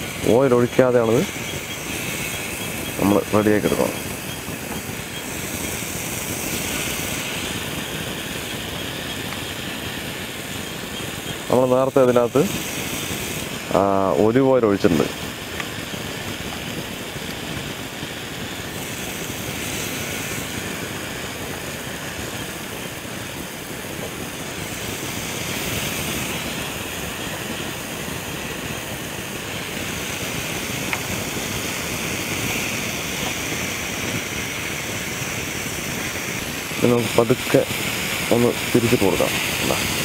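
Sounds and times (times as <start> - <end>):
chicken sizzling on a grill pan: 0.0 - 40.0.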